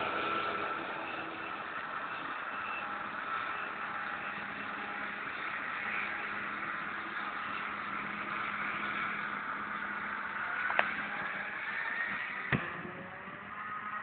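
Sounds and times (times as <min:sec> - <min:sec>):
steady engine drone: 0:00.0 - 0:14.0.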